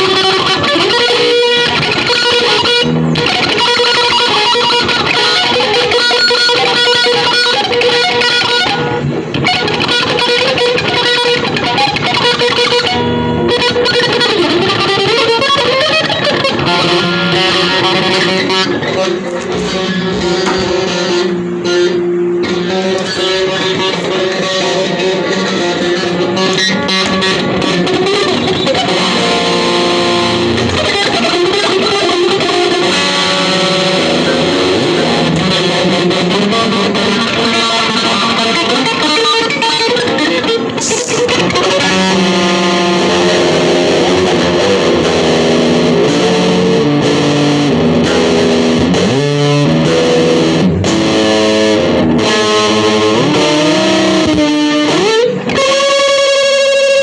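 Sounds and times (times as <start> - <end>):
distorted electric guitar music: 0.0 - 57.0.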